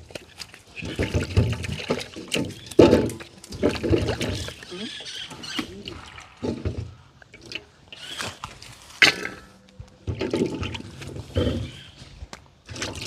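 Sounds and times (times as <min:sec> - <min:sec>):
water sloshing in a container: 0:00.0 - 0:13.0.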